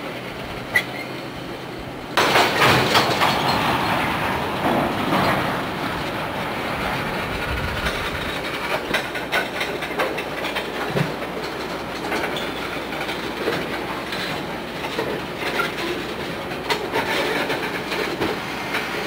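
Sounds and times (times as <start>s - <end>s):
freight train wheels rumbling: 0.0s - 19.0s
wheels clicking over rail joints: 0.0s - 19.0s.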